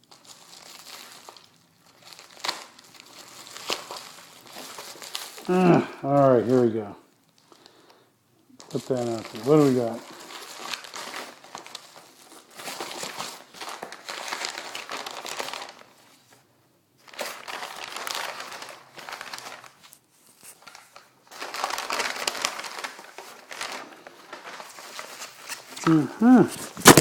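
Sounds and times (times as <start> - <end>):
packing material crinkling: 0.0 - 8.0, 8.6 - 27.0.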